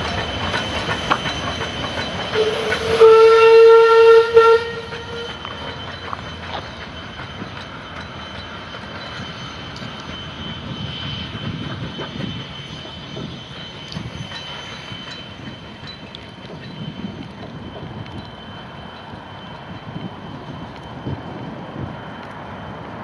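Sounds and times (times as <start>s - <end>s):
steam locomotive rumble and hiss: 0.0s - 23.0s.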